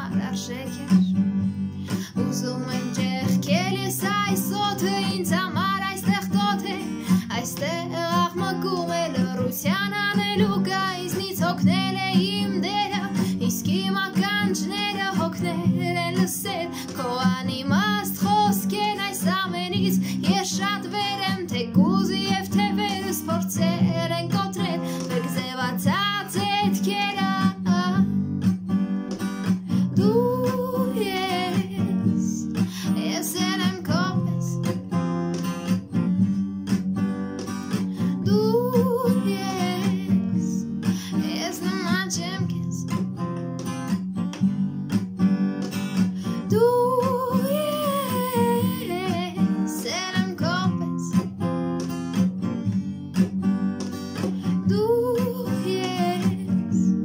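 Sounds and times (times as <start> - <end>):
woman singing: 0.0 - 28.4, 29.1 - 35.8, 37.4 - 43.6, 45.9 - 52.0, 53.8 - 57.0
strummed acoustic guitar: 0.0 - 57.0.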